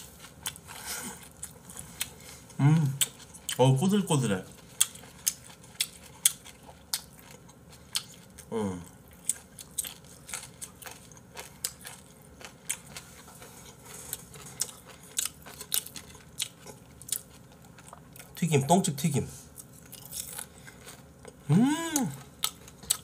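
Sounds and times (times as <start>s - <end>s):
person chewing crunchy food: 0.0s - 18.8s, 19.5s - 23.0s.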